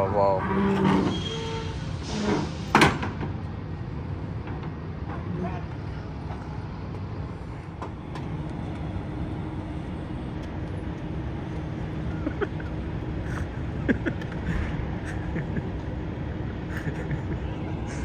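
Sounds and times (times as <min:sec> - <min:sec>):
trucks idling: 0:00.0 - 0:18.0.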